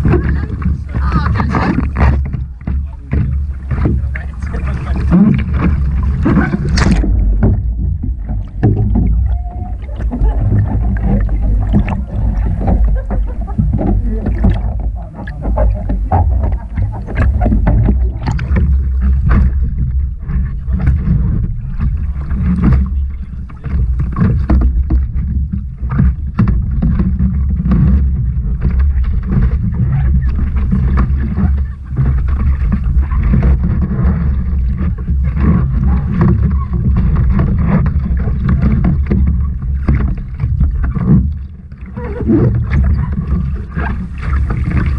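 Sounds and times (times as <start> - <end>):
sea water splashing against kayak: 0.0 - 44.9
wind buffeting camera: 0.0 - 44.9.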